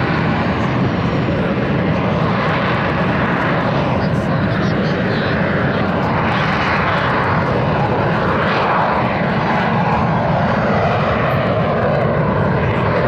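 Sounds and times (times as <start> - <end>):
jet aircraft engine: 0.0 - 13.0.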